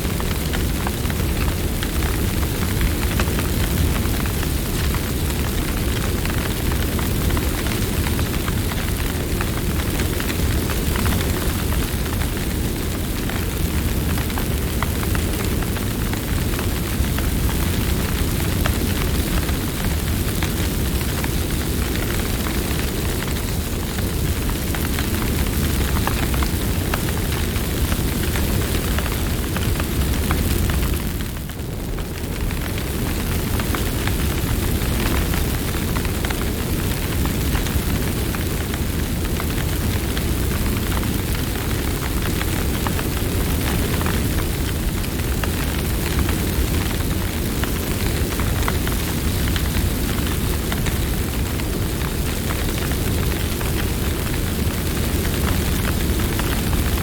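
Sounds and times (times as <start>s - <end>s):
campfire flames rumbling: 0.0s - 57.0s
wood crackling and popping: 0.0s - 57.0s.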